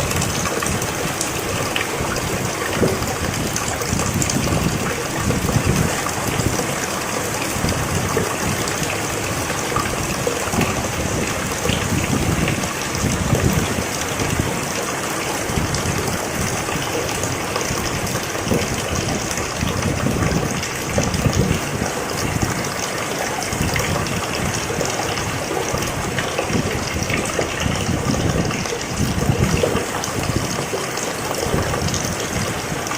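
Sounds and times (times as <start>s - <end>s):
low wash of water: 0.0s - 32.9s
steady rain hiss: 0.0s - 32.9s.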